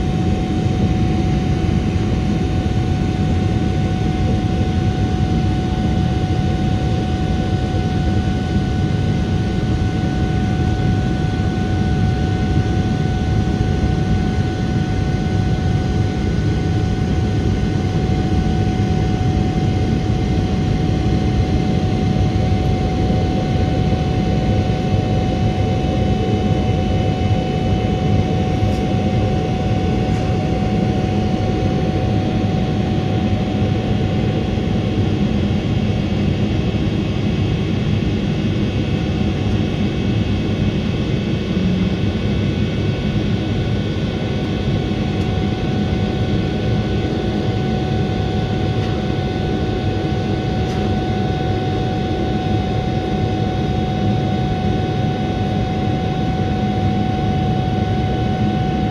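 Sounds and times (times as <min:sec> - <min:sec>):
jet engine roar in cabin: 0:00.0 - 0:58.9.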